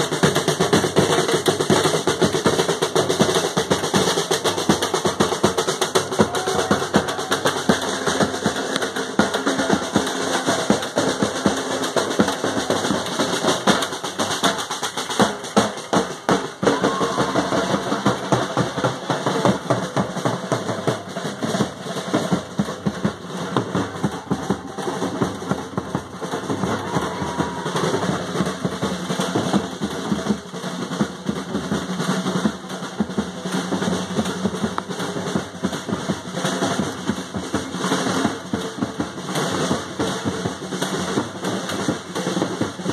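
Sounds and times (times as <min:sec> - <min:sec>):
drums beaten in fast rhythm: 0:00.0 - 0:42.9.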